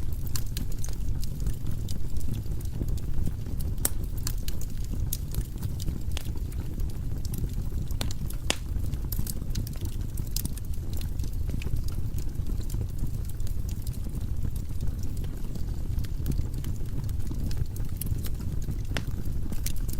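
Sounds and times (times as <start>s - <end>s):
fire crackling and popping: 0.0s - 19.9s.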